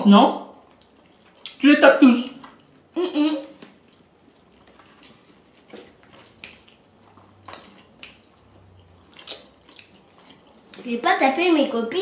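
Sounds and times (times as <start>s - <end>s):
people chewing: 0.6s - 1.6s, 2.3s - 11.0s.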